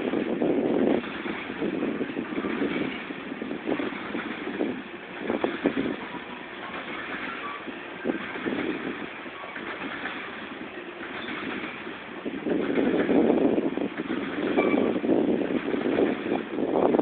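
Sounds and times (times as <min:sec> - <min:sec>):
train wheels rumbling on rails: 0:00.0 - 0:17.0
sharp clacks: 0:01.0 - 0:16.6.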